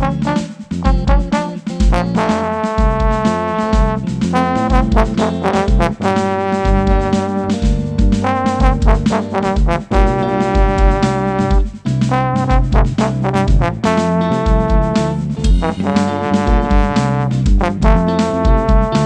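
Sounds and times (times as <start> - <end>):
bass line: 0.0 - 19.0
kick drum beat: 0.0 - 19.0
trombone melody: 0.0 - 19.0.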